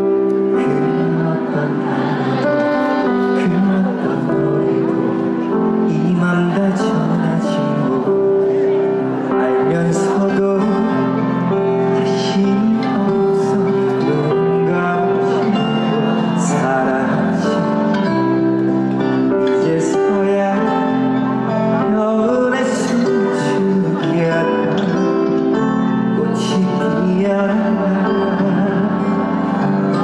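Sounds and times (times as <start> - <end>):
guitar: 0.0 - 30.0
live band playing: 0.0 - 30.0.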